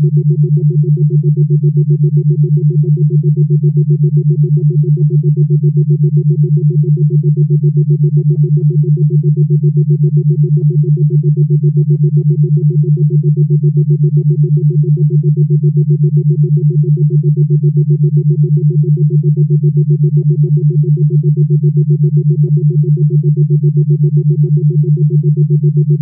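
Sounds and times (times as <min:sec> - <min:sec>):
pulsing low synthesized tone: 0:00.0 - 0:26.0.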